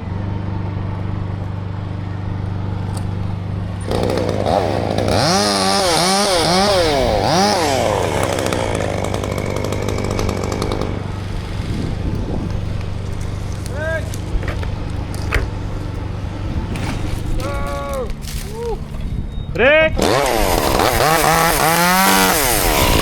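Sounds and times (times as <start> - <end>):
engine humming: 0.0 - 23.0
chainsaw revving: 2.8 - 19.2, 20.0 - 23.0.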